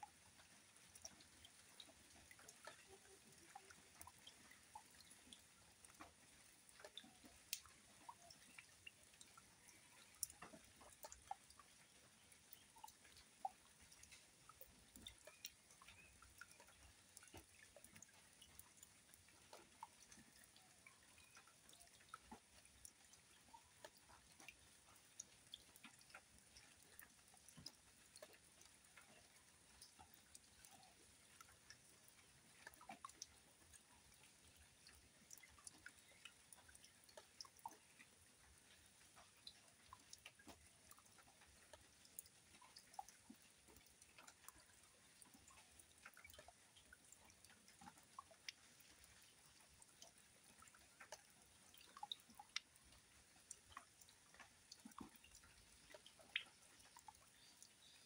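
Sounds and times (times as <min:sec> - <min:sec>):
water dripping into pool: 0:00.0 - 0:58.0.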